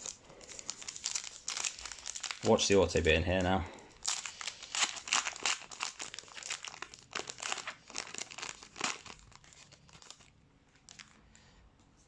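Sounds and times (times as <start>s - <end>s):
wrapper crinkling and tearing: 0.0s - 11.2s.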